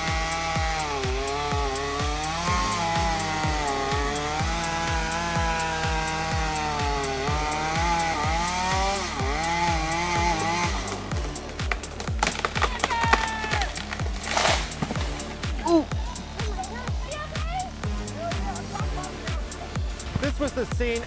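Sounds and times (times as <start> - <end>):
background music with drum beat: 0.0 - 21.0
chainsaw running and cutting: 0.0 - 21.0.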